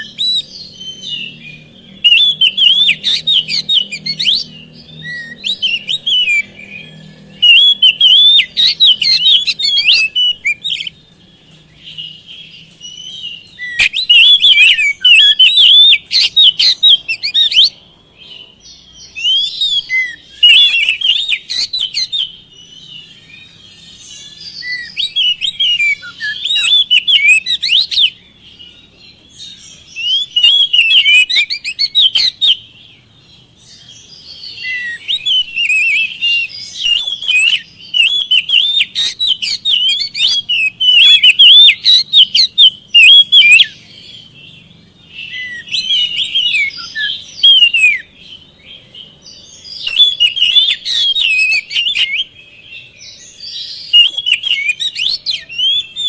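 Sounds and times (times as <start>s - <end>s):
magpie-robin singing whistled phrases: 0.0s - 11.1s, 11.8s - 56.0s.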